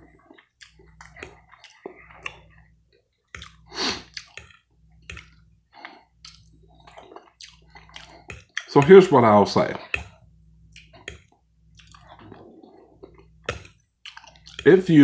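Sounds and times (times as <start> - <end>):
close chewing with mouth clicks: 0.0 - 9.1, 9.7 - 14.8.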